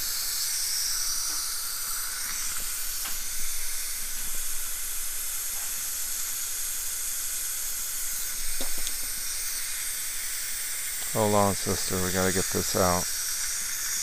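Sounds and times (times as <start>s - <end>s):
dental suction hissing: 0.0s - 14.0s.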